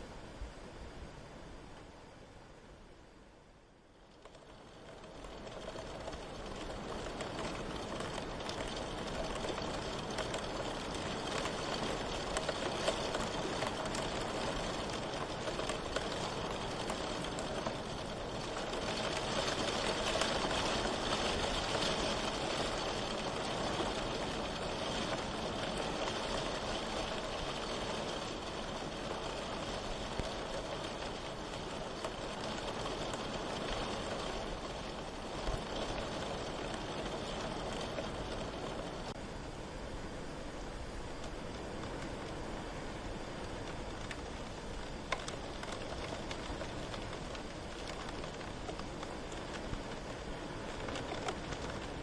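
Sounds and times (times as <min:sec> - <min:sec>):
rain hissing and pattering: 0:00.0 - 0:52.0.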